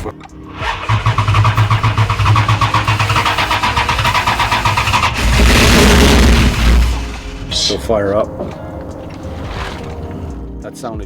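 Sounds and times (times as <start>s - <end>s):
engine cranking on starter: 0.0s - 10.6s
engine firing into rumble: 0.0s - 10.6s.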